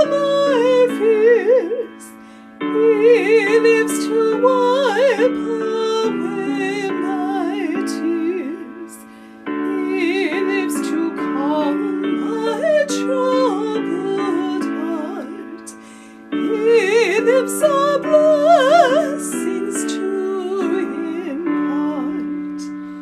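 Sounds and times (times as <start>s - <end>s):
keyboard chords: 0.0s - 23.0s
person singing with vibrato: 0.0s - 23.0s.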